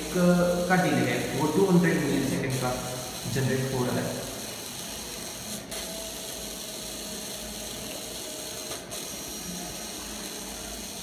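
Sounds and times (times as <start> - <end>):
small electric motor running: 0.0 - 11.0.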